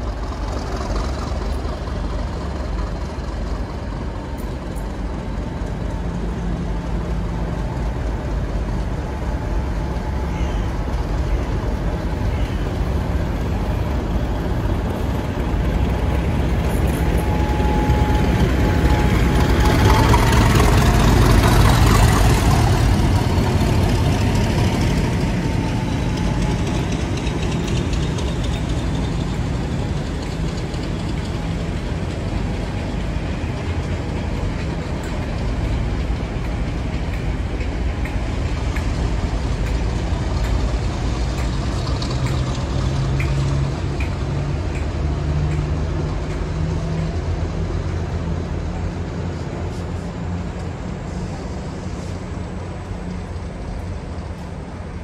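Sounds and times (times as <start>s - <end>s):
coaches rolling on rails: 0.0s - 55.0s
diesel locomotive engine: 0.0s - 55.0s.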